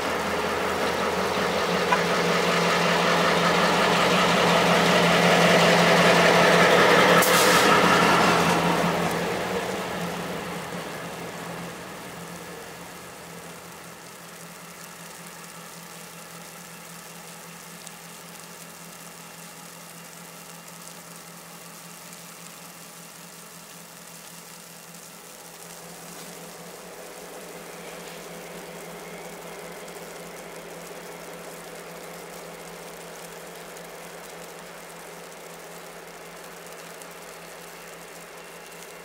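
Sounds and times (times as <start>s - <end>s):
diesel locomotive engine running: 0.0s - 24.0s, 24.7s - 39.0s.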